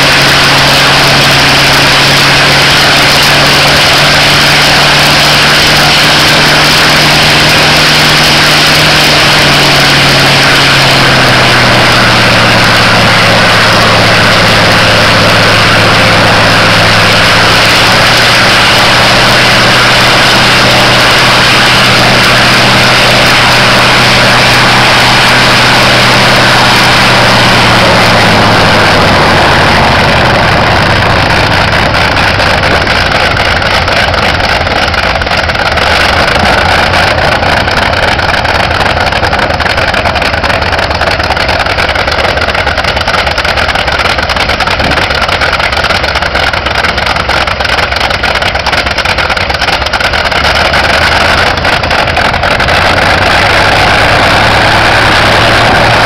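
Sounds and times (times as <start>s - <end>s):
radial engine and propeller roaring: 0.0s - 56.0s.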